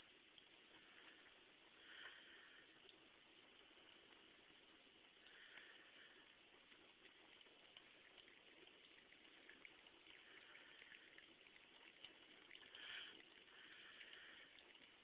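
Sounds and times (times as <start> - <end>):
cat lapping water: 0.0 - 15.0
faucet water trickling: 0.0 - 15.0.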